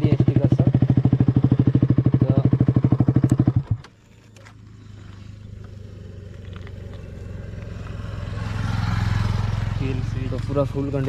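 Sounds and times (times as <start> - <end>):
motorcycle engine open exhaust: 0.0 - 11.0.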